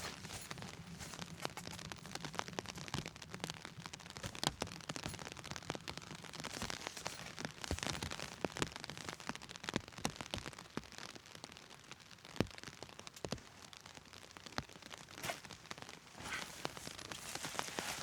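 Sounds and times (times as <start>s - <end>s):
heavy rain on a tent: 0.0s - 18.0s.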